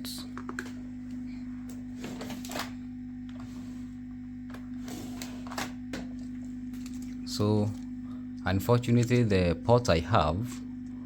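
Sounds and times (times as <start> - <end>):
hot air blower humming: 0.0 - 11.0.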